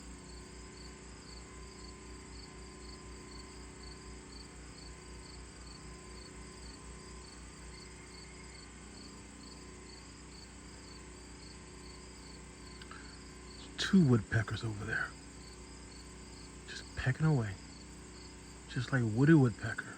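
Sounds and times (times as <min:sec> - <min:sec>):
insect chirping: 0:00.0 - 0:19.9
low background hum: 0:00.0 - 0:19.9.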